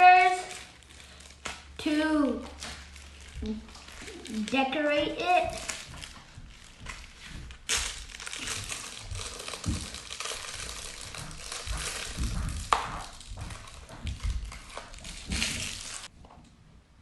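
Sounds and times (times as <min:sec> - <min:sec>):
crinkling of craft materials: 0:00.0 - 0:16.1.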